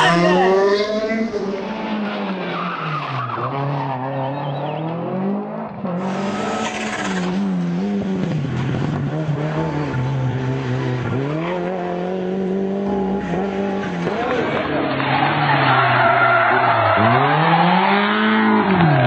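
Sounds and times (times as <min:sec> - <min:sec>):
rally car engine at full throttle: 0:00.0 - 0:19.0.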